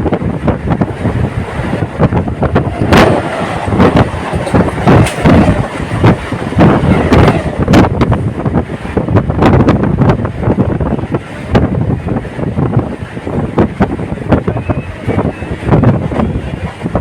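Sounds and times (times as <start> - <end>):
train wheels clattering over track: 0.0 - 14.6
wind buffeting microphone: 0.0 - 17.0.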